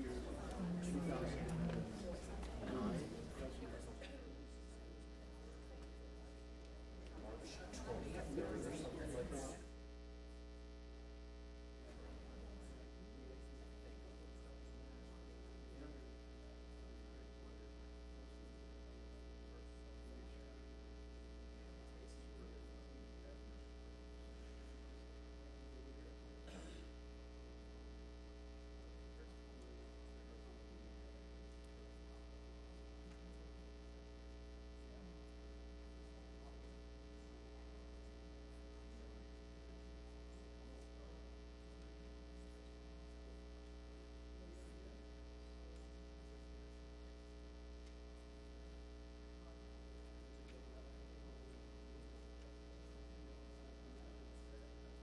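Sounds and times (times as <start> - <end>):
faint electrical mains hum: 0.0 - 55.0.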